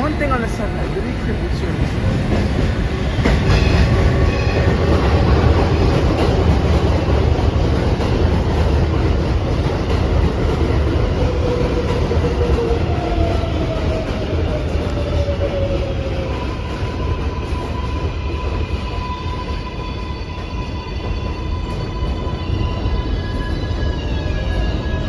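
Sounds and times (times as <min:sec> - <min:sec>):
subway train rumbling on track: 0:00.0 - 0:25.0.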